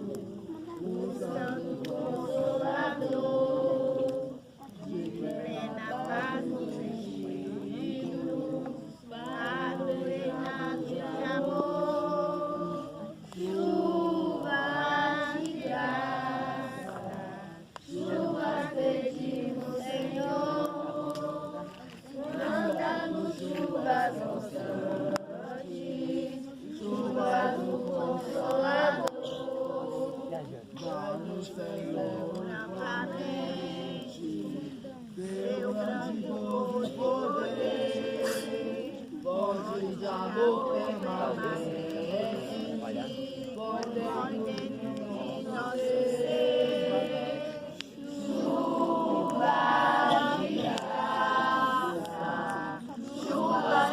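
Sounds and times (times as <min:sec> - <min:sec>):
group singing worship song: 0:00.0 - 0:53.9.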